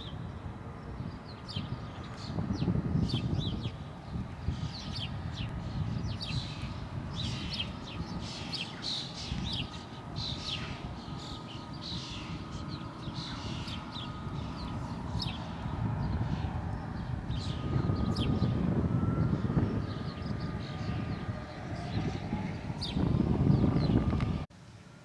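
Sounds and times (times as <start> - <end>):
birds chirping: 0.0 - 24.4
steady low rumble: 0.0 - 24.5.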